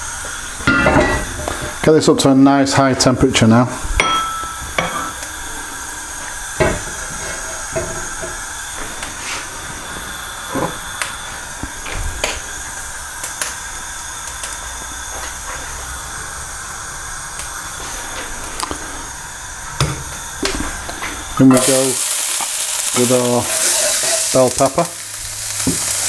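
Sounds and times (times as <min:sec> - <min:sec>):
oil hissing in hot wok: 0:00.0 - 0:02.6, 0:03.4 - 0:26.0.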